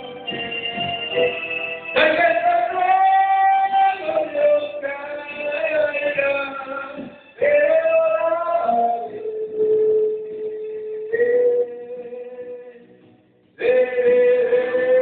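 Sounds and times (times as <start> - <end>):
man singing long notes: 1.9 - 12.8, 13.6 - 15.0.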